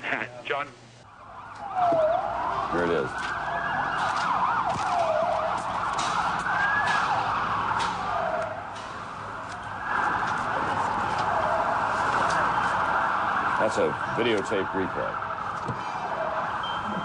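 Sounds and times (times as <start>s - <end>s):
emergency sirens wailing: 1.0s - 17.0s.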